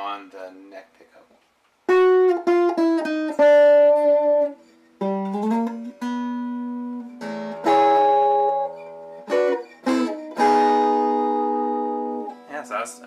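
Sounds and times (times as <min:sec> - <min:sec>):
clean electric guitar notes and chord: 0:01.9 - 0:13.0.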